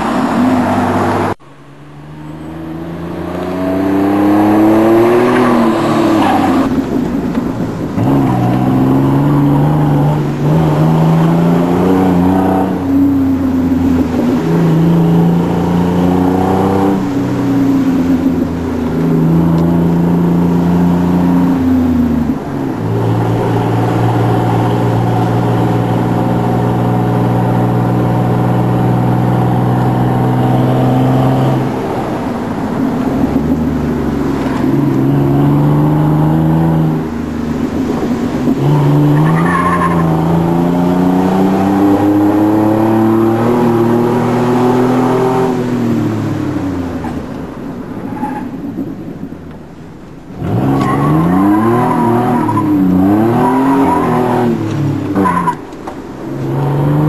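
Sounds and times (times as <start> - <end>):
truck engine revving: 0.0 - 47.2, 50.3 - 57.0.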